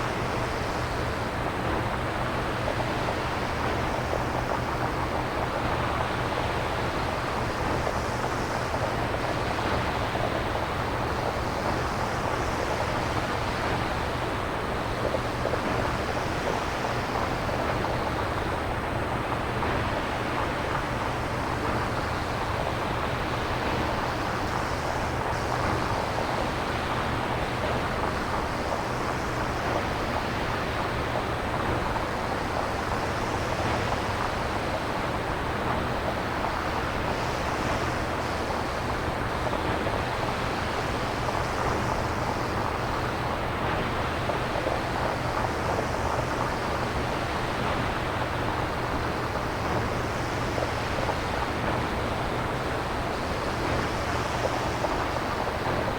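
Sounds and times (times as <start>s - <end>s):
synthesized surf-like hiss: 0.0s - 55.9s.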